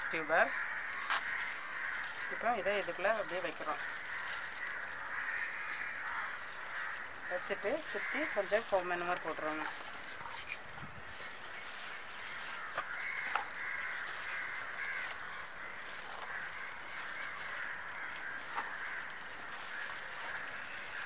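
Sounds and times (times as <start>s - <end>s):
crows cawing: 0.0s - 21.0s.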